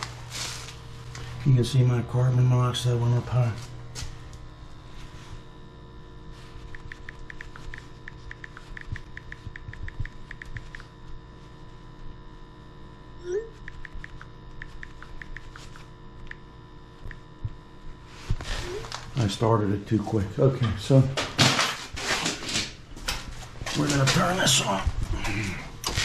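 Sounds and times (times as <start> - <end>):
boiler humming: 0.0 - 26.0.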